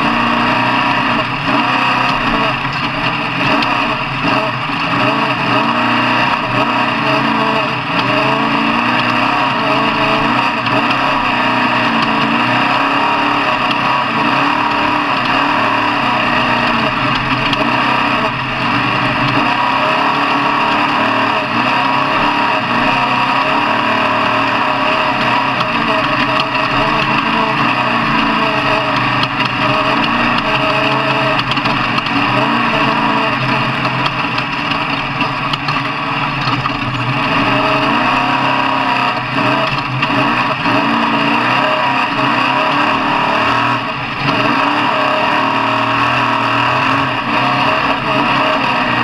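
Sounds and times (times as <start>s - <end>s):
truck engines revving: 0.0s - 49.0s.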